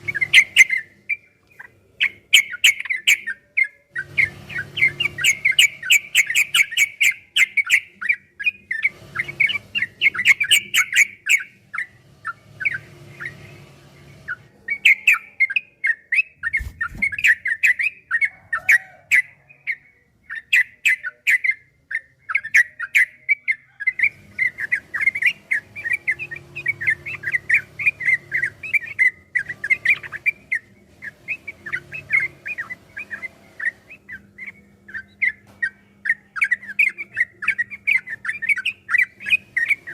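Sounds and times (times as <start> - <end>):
bulbul singing fast chirps: 0.0 - 39.9.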